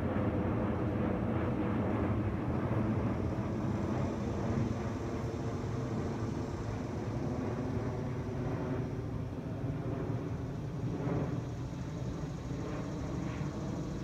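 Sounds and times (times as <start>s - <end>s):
jet airliner overhead: 0.0s - 14.0s.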